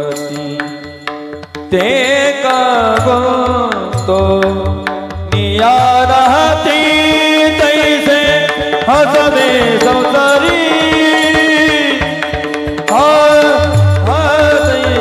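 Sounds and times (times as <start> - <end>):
held accompanying tones: 0.0 - 15.0
man singing: 0.0 - 15.0
drum strokes: 0.1 - 15.0.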